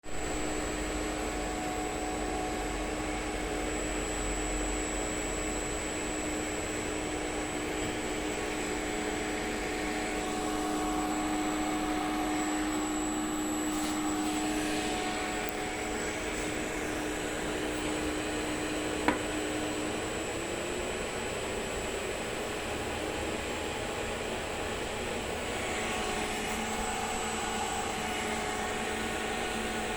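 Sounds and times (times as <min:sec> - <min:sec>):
electric motor humming with whine: 0:00.1 - 0:29.9.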